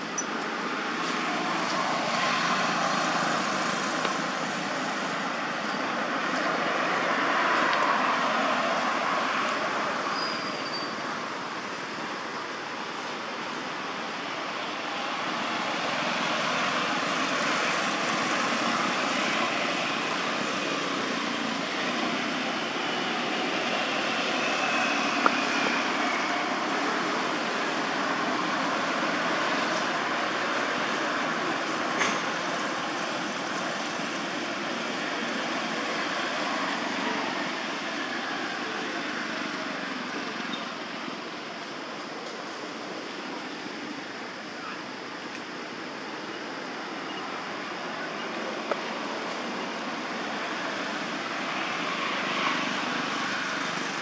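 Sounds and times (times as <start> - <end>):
rushing background noise: 0.0 - 54.0.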